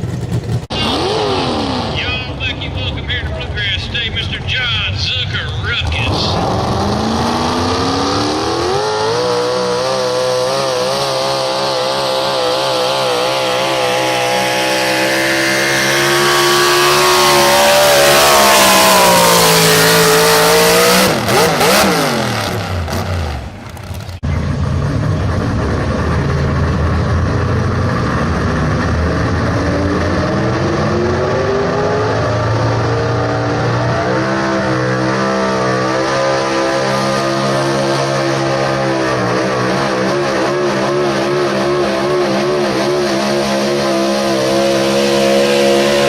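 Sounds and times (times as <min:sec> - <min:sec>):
truck engine at full revs: 0:00.0 - 0:46.0.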